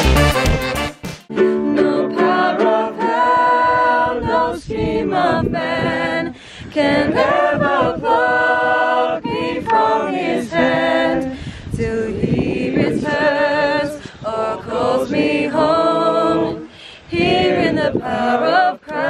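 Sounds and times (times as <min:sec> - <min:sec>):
voices singing in harmony: 0:01.3 - 0:19.0.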